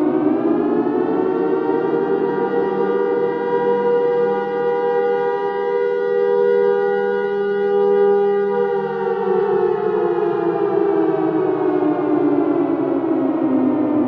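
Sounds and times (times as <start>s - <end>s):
civil defense warning siren: 0.0s - 14.0s.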